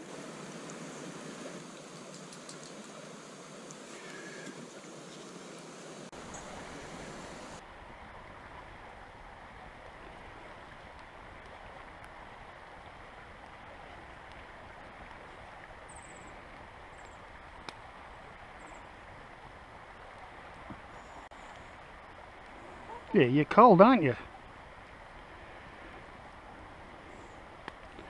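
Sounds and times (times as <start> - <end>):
creek rushing over stones: 0.0 - 28.0.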